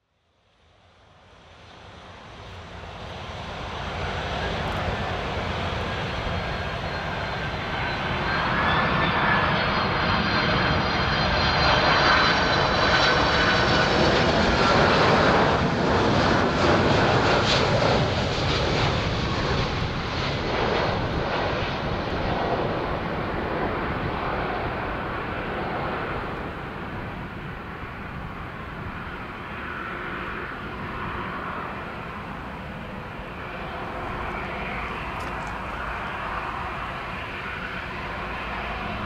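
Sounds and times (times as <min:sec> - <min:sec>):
jet airliner engines roaring: 0:00.6 - 0:39.0.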